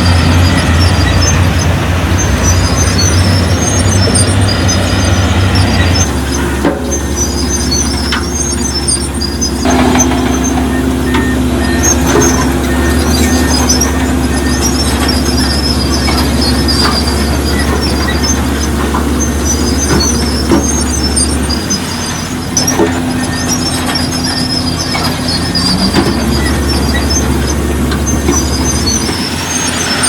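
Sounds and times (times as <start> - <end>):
heavy machinery diesel engine: 0.0 - 30.0
high metallic squeals: 0.0 - 30.0.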